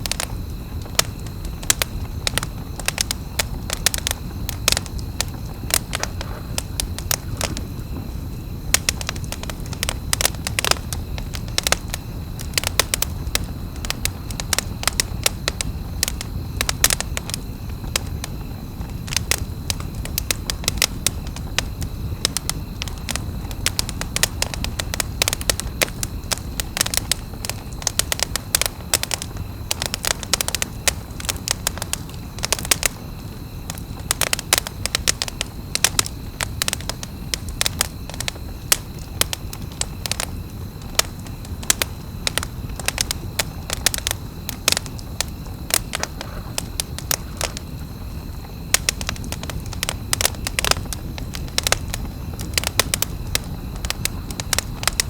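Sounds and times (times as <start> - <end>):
campfire crackling and popping: 0.0 - 55.0
flames rushing: 0.0 - 55.0.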